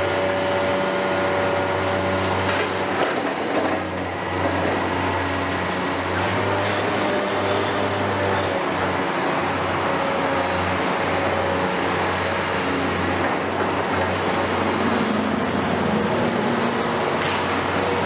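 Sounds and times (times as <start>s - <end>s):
excavator diesel engine humming: 0.0s - 18.0s.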